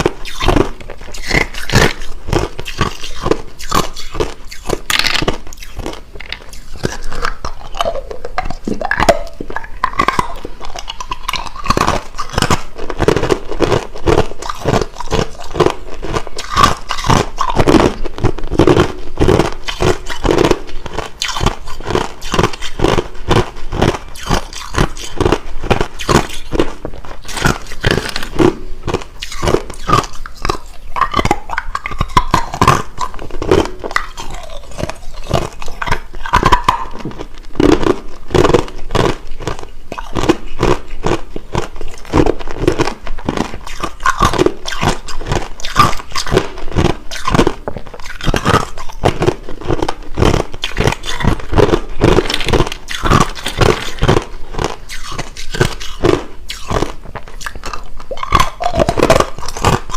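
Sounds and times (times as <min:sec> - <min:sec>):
crushed ice being chewed: 0:00.0 - 0:59.9.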